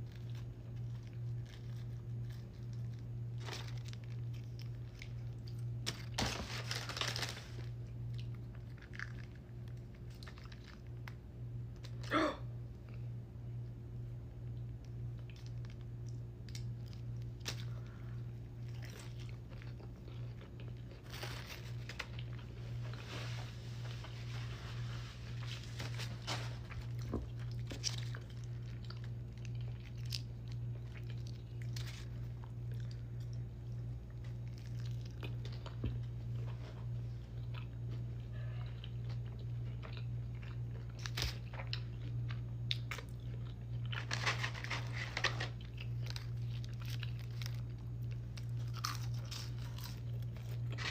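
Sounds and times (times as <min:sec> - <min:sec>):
chewing crunchy food: 0:00.0 - 0:12.1, 0:12.7 - 0:50.9
steady low hum: 0:00.0 - 0:50.9.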